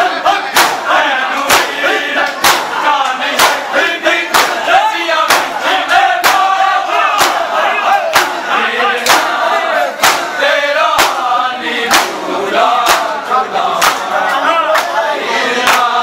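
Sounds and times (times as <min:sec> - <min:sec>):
crowd din: 0:00.0 - 0:16.0
men chanting and shouting: 0:00.0 - 0:16.0
men slapping their chests: 0:00.5 - 0:15.0, 0:15.6 - 0:16.0.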